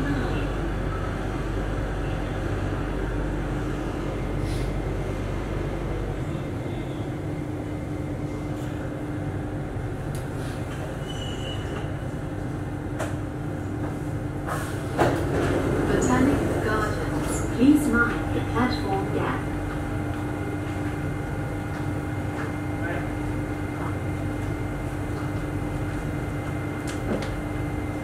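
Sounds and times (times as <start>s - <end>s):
steady hum: 0.0s - 11.0s, 11.8s - 28.0s.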